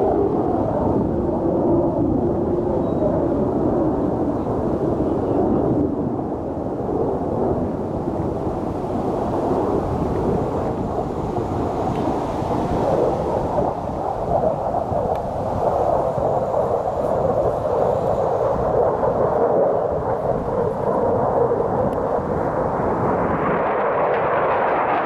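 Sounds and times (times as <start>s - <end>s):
jet engines deep rumble: 0.0s - 25.0s.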